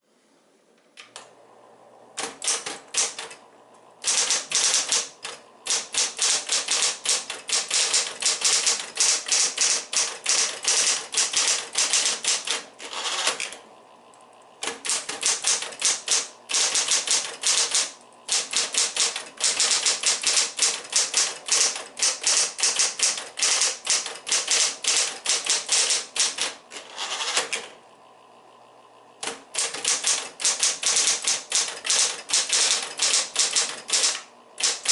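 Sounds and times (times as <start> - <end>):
electric typewriter key strikes: 2.2 - 3.4, 4.0 - 13.6, 14.6 - 27.7, 29.2 - 34.9
typewriter motor humming: 2.2 - 27.9, 29.1 - 34.9.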